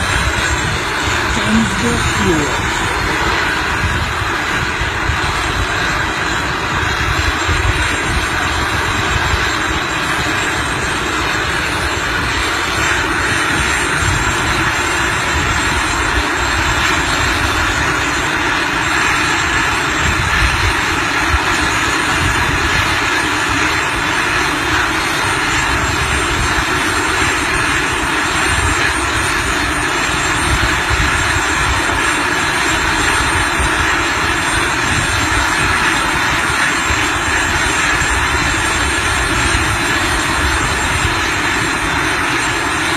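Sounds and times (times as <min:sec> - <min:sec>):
aircraft engine noise: 0:00.0 - 0:42.9.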